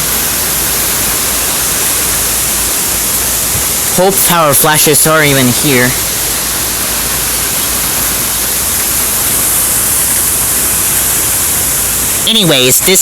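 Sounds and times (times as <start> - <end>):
strong wind and rain: 0.0 - 13.0.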